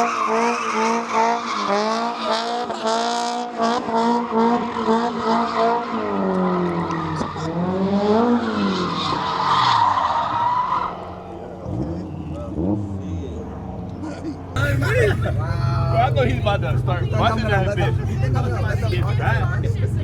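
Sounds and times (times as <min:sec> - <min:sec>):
car engine revving: 0:00.0 - 0:09.9, 0:10.8 - 0:20.0.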